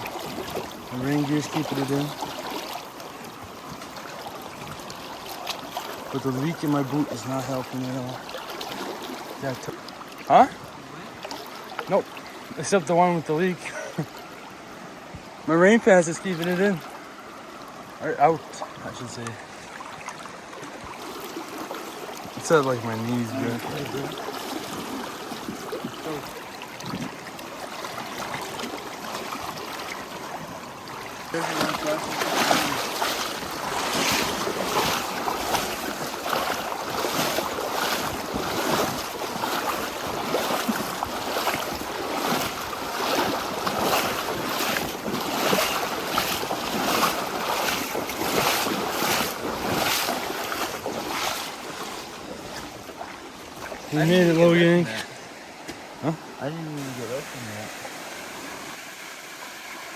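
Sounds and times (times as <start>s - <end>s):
legs splashing through water: 0.0s - 14.6s, 15.5s - 58.7s
river current rushing: 0.0s - 59.9s.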